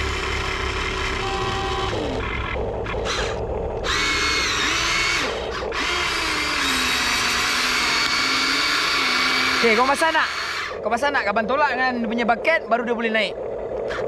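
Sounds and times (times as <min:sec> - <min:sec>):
small electric motors whining: 0:00.0 - 0:11.3.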